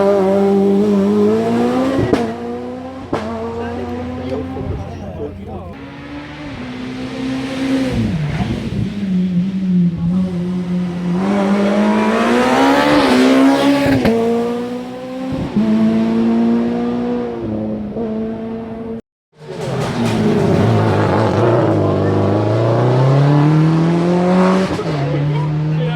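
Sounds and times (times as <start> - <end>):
another car engine: 0.0 - 25.9
rally car engine at full throttle: 0.0 - 25.9.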